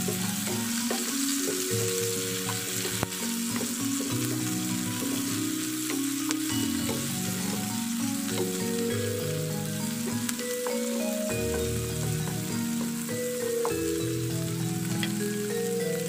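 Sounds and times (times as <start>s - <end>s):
wooden spatula stirring and scraping: 0.0s - 15.4s
vegetables sizzling in hot oil: 0.0s - 16.0s.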